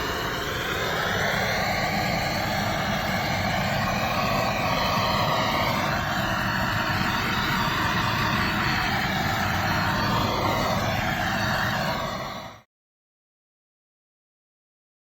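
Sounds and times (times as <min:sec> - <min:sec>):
engine-driven machine running: 0:00.0 - 0:12.6.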